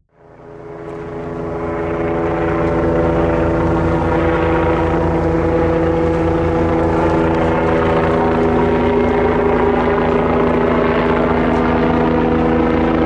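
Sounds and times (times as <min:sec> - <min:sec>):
helicopter rotor and engine: 0:00.1 - 0:13.0.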